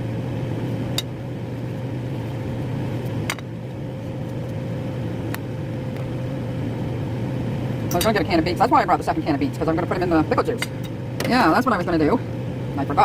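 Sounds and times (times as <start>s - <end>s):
motor hum with held tone: 0.0s - 13.0s.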